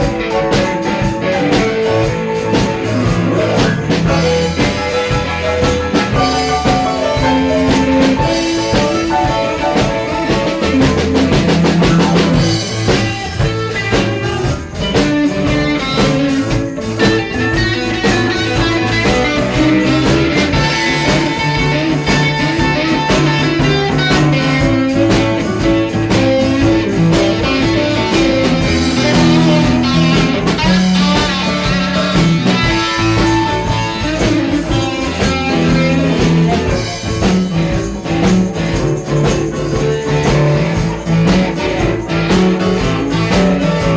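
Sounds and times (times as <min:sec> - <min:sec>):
blues rock band playing: 0:00.0 - 0:43.9
electric guitar lines: 0:00.0 - 0:43.9.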